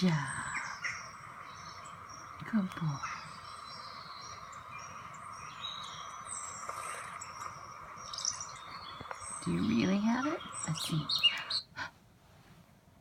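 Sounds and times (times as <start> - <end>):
small birds chirping and whistling: 0.0 - 11.8
steady hiss: 0.0 - 13.0.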